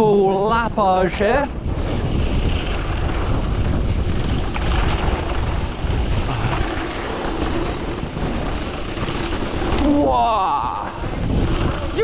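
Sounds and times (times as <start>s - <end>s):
bike tyres rumbling over dirt: 0.0s - 12.0s
wind buffeting microphone: 0.0s - 12.0s.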